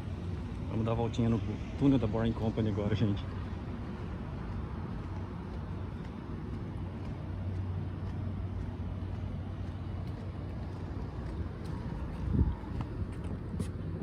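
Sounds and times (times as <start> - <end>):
steady low hum: 0.0 - 14.0
urban background rumble: 0.0 - 14.0.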